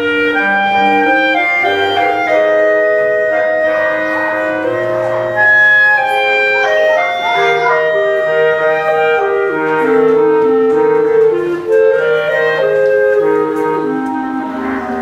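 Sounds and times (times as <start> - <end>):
clarinet quartet playing: 0.0 - 15.0.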